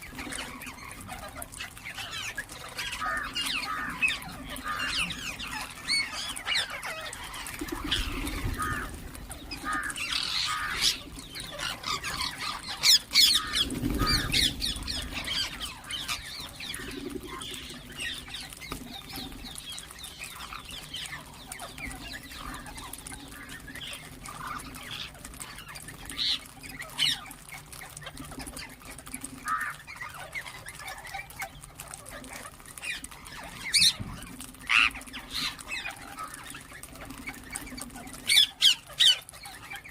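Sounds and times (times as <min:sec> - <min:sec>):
parakeets chirping and squawking: 0:00.0 - 0:39.9.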